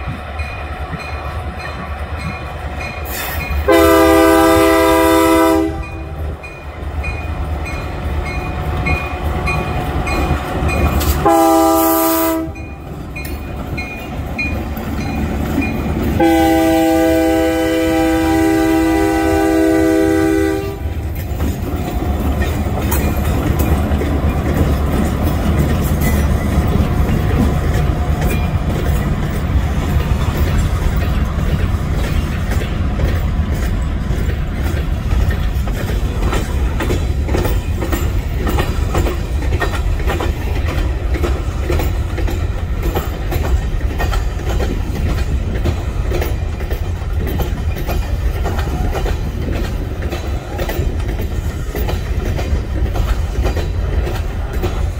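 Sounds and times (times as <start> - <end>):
freight train rumbling past: 0.0 - 54.9
wheels clacking over rail joints: 0.0 - 54.9.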